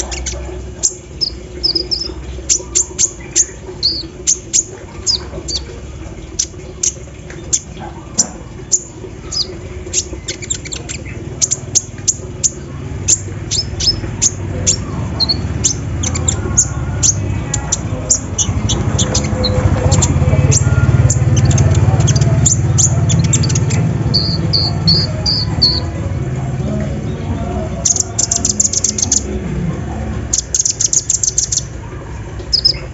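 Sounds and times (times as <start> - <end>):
sunbird chirping: 0.0 - 26.0, 26.9 - 29.3, 30.3 - 31.7, 32.4 - 32.9.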